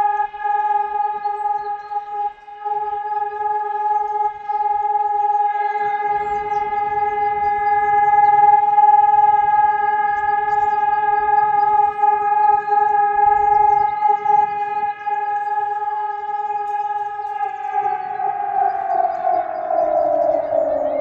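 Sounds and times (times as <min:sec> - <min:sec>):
steady siren tone: 0:00.0 - 0:21.0.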